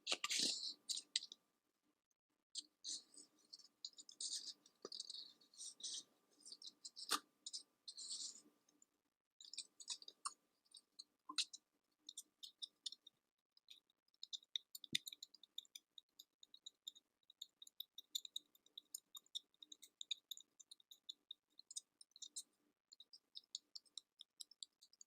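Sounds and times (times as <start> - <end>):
faint crackling and clicking: 2.6 - 25.0.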